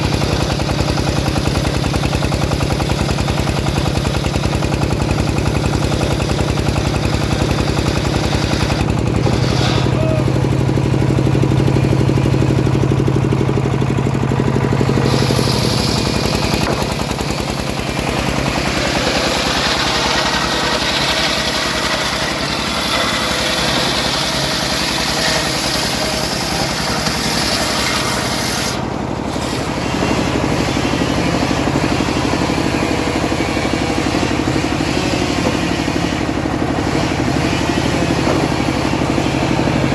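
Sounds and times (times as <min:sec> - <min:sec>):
saw cutting wood hiss: 0:00.0 - 0:10.5, 0:14.8 - 0:39.9
sawmill engine running: 0:00.0 - 0:39.9.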